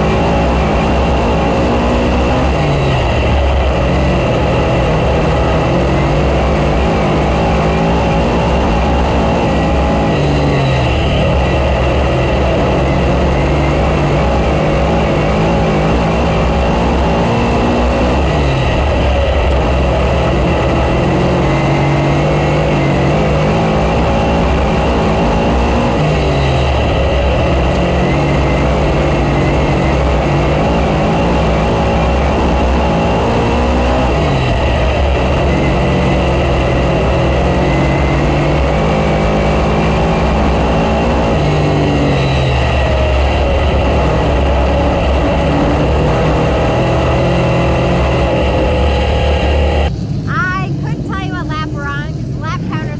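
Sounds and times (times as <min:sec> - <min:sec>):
race car engine running hard: 0:00.0 - 0:52.9.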